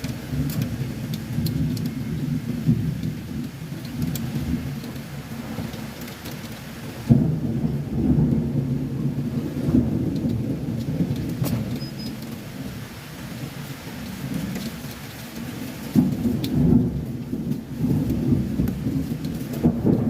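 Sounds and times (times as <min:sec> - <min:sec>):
heavy rain: 0:00.0 - 0:20.0
thunder crack and rumble: 0:00.0 - 0:20.0.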